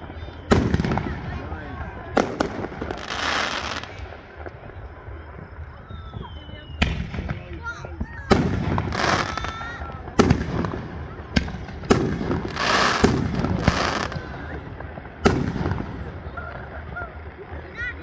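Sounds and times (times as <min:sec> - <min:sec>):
firework crackling: 0:00.0 - 0:18.0.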